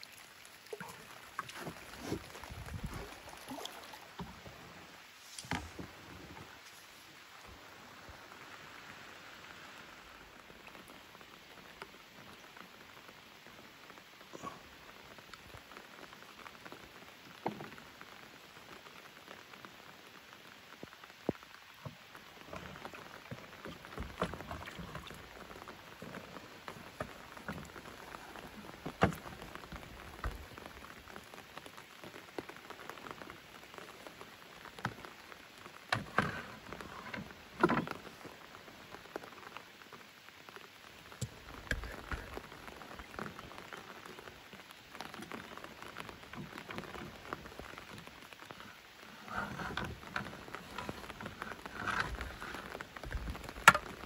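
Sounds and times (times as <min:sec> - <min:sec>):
rain falling on lake: 0:00.0 - 0:54.0.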